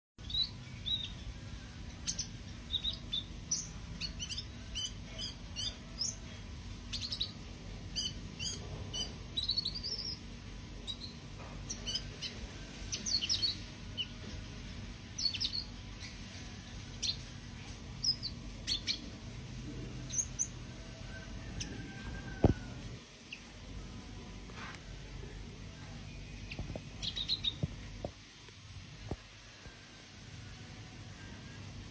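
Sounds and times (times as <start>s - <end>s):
songbird chirping: 0.2s - 28.2s
steady low hum: 0.2s - 31.9s.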